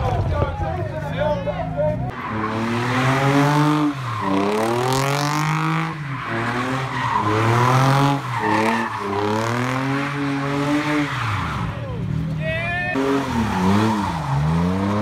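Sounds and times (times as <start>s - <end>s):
tyres squealing: 2.0s - 15.0s
car engine at high revs: 2.1s - 12.3s, 12.9s - 15.0s.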